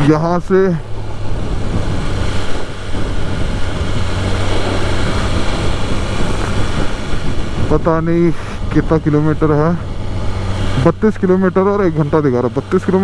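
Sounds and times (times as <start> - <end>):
motorcycle engine running: 0.0 - 13.0
wind noise on microphone: 0.0 - 13.0.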